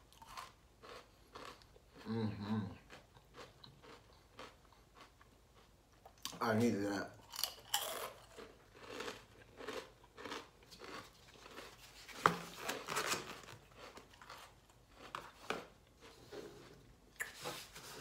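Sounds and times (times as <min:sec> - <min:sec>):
crunchy chewing of cookie: 0:00.0 - 0:06.4, 0:07.2 - 0:17.4.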